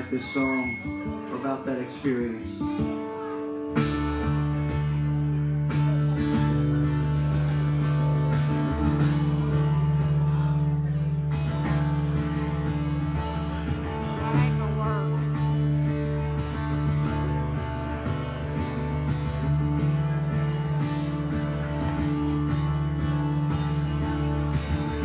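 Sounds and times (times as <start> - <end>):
strummed guitar: 0.0 - 25.0.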